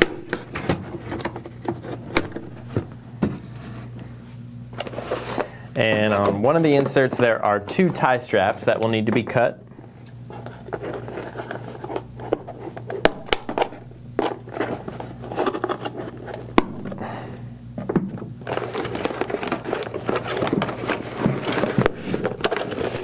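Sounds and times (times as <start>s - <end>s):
cardboard scraping and rustling: 0.2s - 4.0s, 4.7s - 9.6s, 10.2s - 17.0s, 18.1s - 23.0s.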